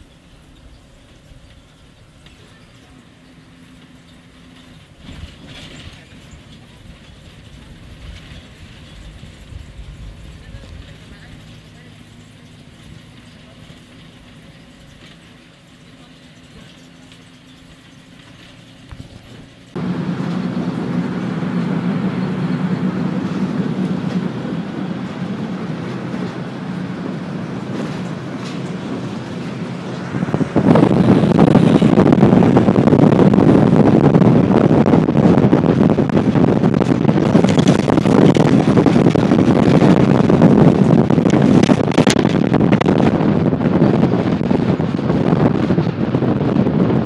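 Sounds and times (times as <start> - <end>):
car engine and tyres humming: 0.0 - 47.0
wind rushing over microphone: 4.2 - 15.1, 18.8 - 47.0.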